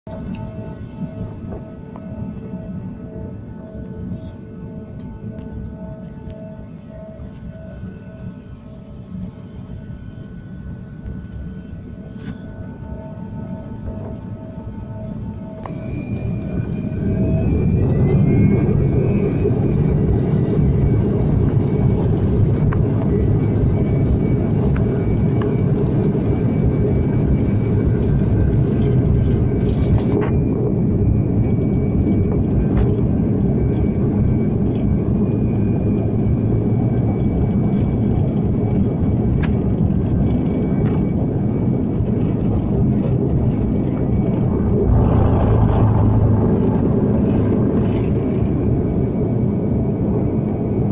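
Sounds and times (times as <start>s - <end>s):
jet engine whine: 0.0s - 50.9s
jet engines rumbling: 0.1s - 50.9s.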